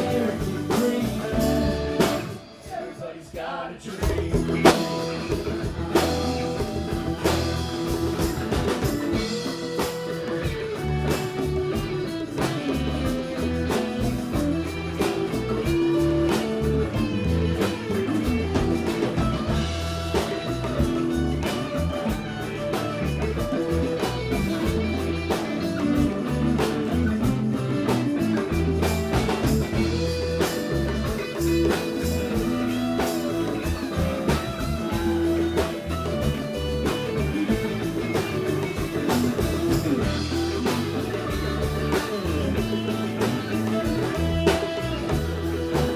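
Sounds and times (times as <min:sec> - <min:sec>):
drum kit: 0:00.0 - 0:02.8, 0:04.0 - 0:45.9
bass guitar: 0:00.0 - 0:03.0, 0:04.0 - 0:45.9
electric guitar: 0:00.0 - 0:45.9.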